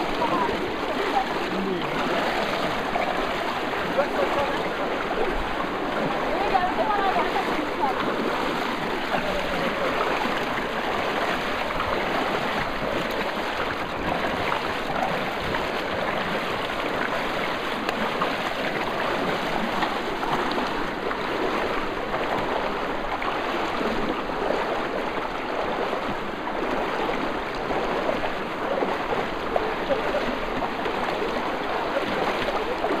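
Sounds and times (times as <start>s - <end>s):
river water rushing against hull: 0.0s - 33.0s.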